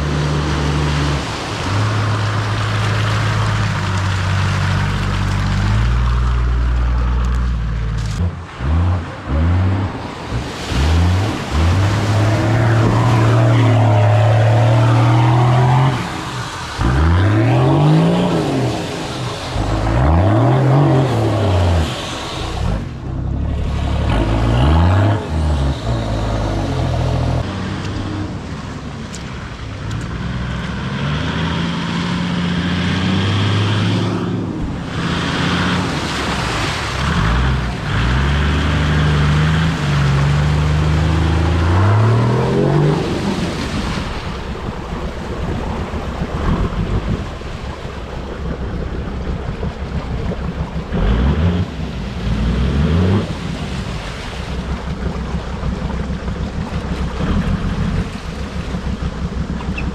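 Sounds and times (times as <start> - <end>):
engines revving: 0.0 - 59.9
muddy water splashing: 0.0 - 59.9.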